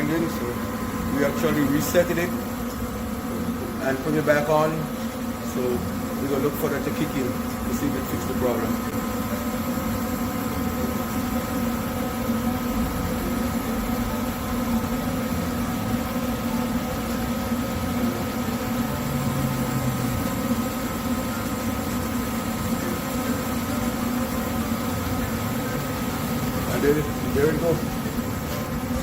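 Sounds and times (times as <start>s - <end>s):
furnace motor humming: 0.0s - 29.0s.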